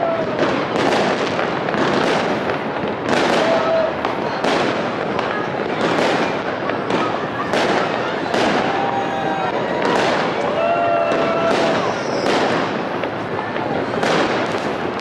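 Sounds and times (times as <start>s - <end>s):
crackle of firecrackers: 0.0s - 15.0s
fireworks bangs: 0.0s - 15.0s.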